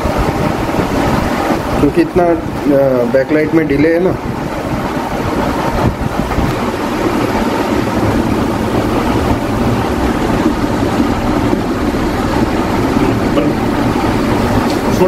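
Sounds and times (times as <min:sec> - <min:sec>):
loud rumbling with hiss: 0:00.0 - 0:15.0.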